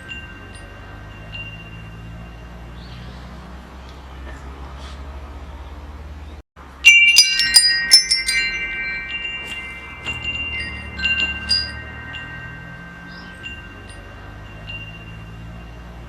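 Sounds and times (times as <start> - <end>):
metal wind chimes ringing: 0.0 - 3.8, 6.6 - 16.0.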